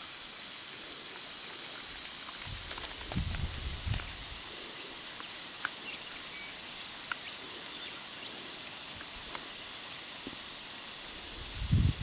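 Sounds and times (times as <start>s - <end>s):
water spraying from pipe: 0.0s - 12.0s
drops ticking: 0.1s - 11.3s.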